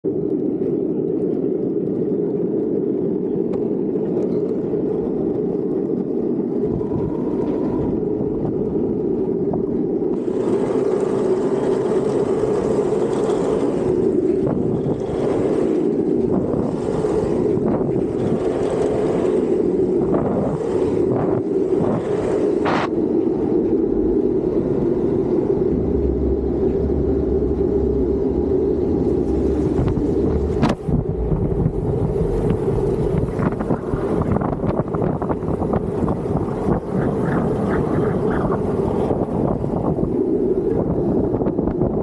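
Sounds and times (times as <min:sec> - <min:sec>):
wheels rolling fast on asphalt: 0:00.0 - 0:42.0
wind rushing over microphone: 0:00.0 - 0:42.0.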